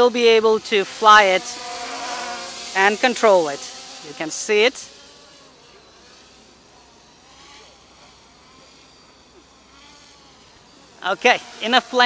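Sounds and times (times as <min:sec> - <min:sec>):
drone motors buzzing: 0:00.0 - 0:12.0.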